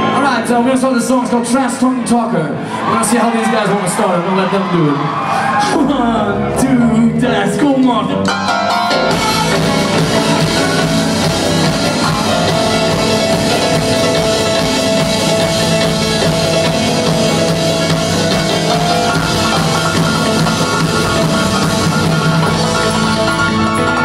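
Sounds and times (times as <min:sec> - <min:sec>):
live rock band playing: 0:00.0 - 0:04.4, 0:05.1 - 0:24.0.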